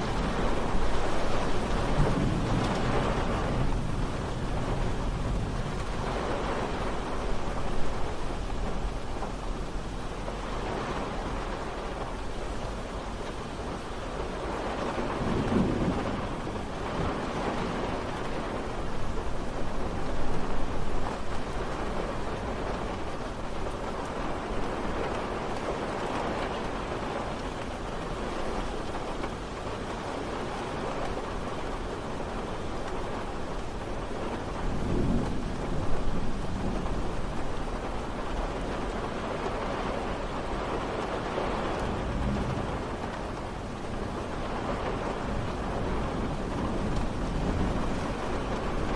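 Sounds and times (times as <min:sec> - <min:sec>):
rain falling: 0:00.0 - 0:48.9
thunder rumbles: 0:00.0 - 0:48.9.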